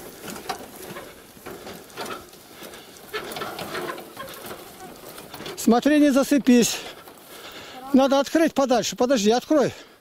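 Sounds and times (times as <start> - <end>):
wooden handcart rattling and knocking: 0.0 - 9.8.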